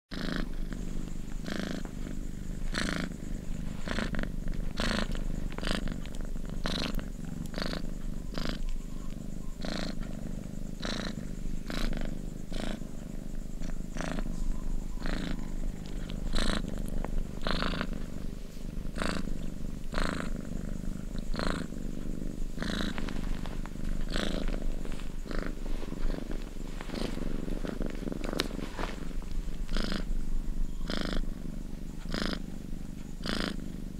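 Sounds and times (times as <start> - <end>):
cat purring: 0.1 - 33.9.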